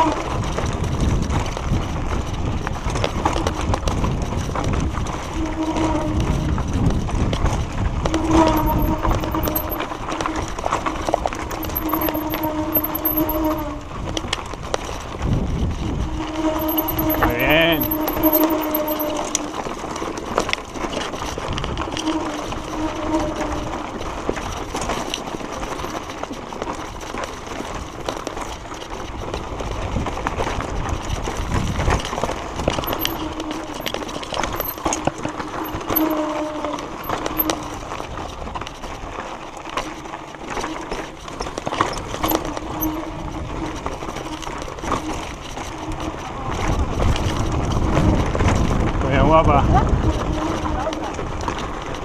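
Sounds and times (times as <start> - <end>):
bike rattling over stones: 0.0 - 52.0
wind and tyre noise: 0.0 - 52.0.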